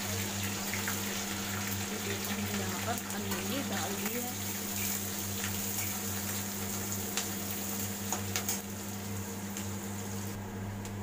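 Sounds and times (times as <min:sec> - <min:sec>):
onions sizzling in oil: 0:00.0 - 0:10.4.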